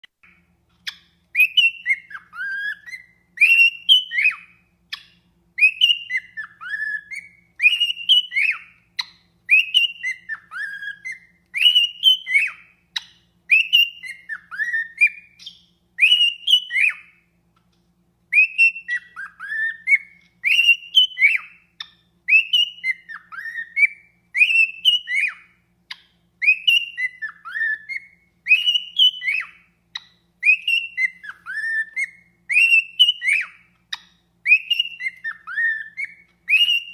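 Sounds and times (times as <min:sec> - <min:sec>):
cockatiel whistling: 0:00.1 - 0:17.4, 0:18.3 - 0:36.9.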